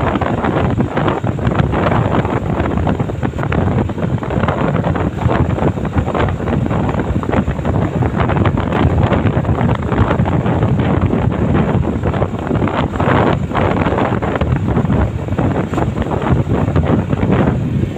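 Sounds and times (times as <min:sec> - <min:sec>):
vehicle running noise: 0:00.0 - 0:17.9
wind buffeting microphone: 0:00.0 - 0:17.9.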